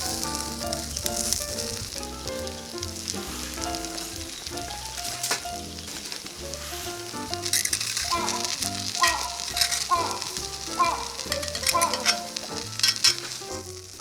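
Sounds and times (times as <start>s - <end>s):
background music with melody: 0.0s - 14.0s
batter sizzling on hot plate: 0.0s - 14.0s.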